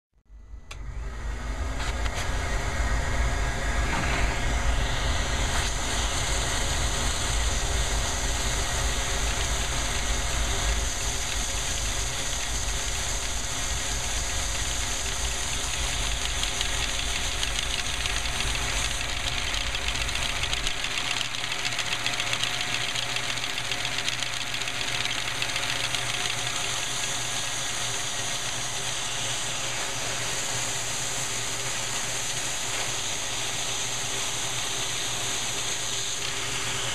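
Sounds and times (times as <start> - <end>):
vacuum cleaner running: 0.7 - 36.9.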